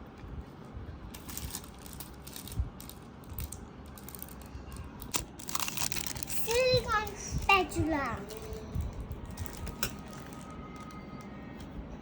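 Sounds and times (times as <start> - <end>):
plastic items clicking: 1.2 - 7.2, 8.1 - 11.7
packaging rustling: 1.2 - 11.3.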